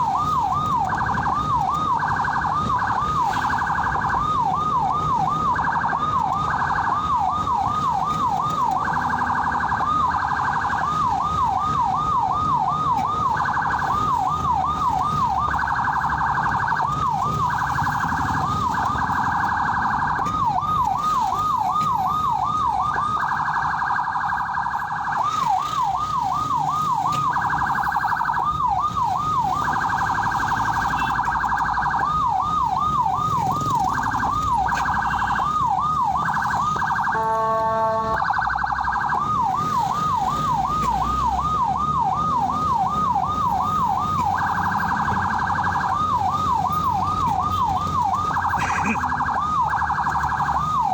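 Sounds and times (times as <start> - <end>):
ambulance siren: 0.0 - 50.9
low road and engine rumble: 0.0 - 50.9.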